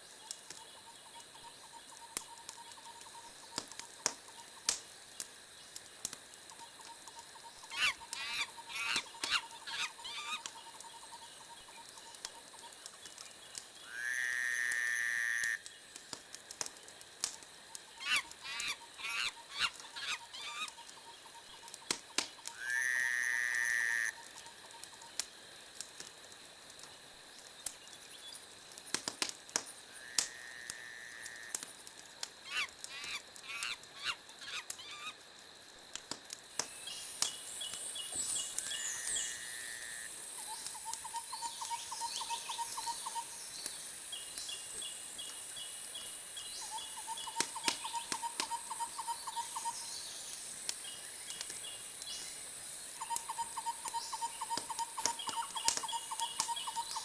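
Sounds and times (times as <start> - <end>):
wood fire crackling: 0.0 - 13.8, 14.6 - 22.6, 23.5 - 57.0.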